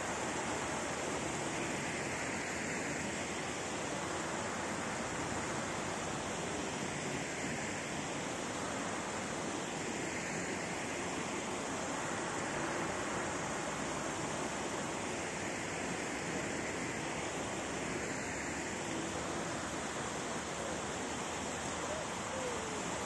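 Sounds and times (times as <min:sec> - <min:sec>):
fountain water splashing: 0:00.0 - 0:23.0.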